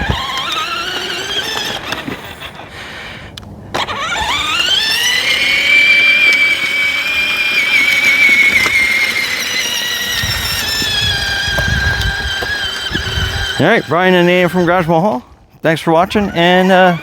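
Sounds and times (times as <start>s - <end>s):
electric motor whine: 0.0s - 2.7s, 3.7s - 15.0s, 16.1s - 17.0s.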